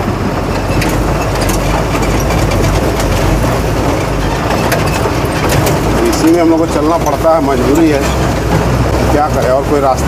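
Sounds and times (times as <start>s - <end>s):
cab rattling over bumps: 0.0s - 10.0s
road noise: 0.0s - 10.0s
truck engine running: 0.0s - 10.0s.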